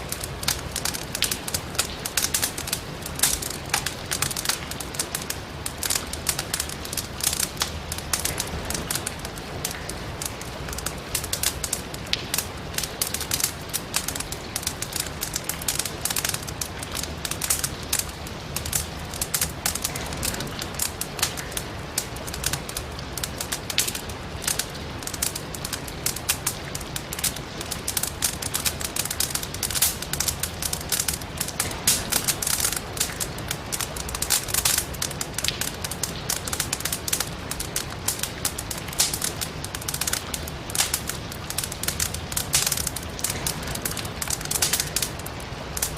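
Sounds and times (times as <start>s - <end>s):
firewood crackling and popping: 0.0s - 45.9s
rain hiss: 0.0s - 45.9s.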